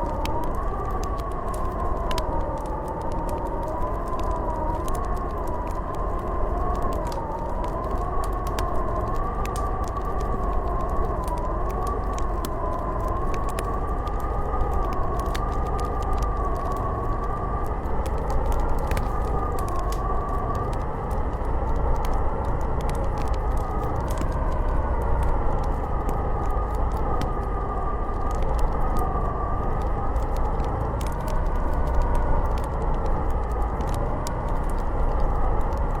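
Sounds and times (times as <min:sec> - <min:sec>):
howling blizzard wind: 0:00.0 - 0:36.0
wood fire crackling: 0:00.0 - 0:36.0.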